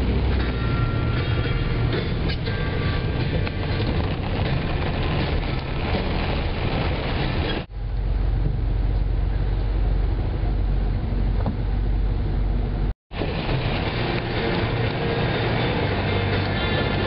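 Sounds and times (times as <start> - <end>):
rain with low rumble: 0.0 - 17.0.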